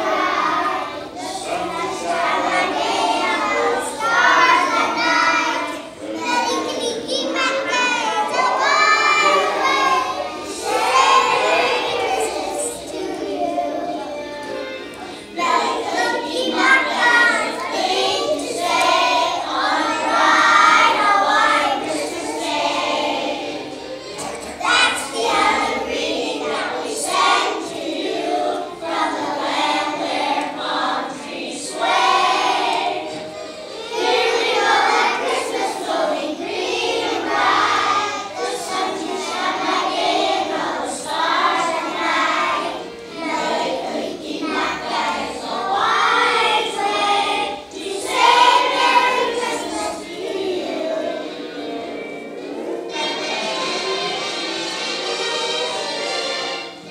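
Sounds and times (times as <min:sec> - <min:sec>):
children's choir singing: 0:00.0 - 0:56.9.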